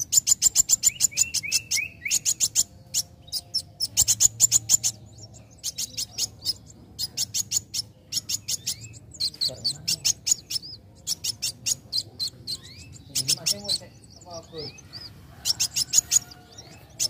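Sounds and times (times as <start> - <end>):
sunbird singing high chips: 0.0 - 17.0.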